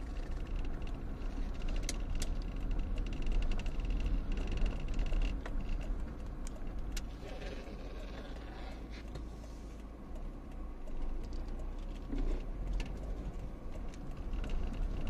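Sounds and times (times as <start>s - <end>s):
car engine and road noise: 0.0s - 15.0s
light clicks and rattles: 0.1s - 15.0s.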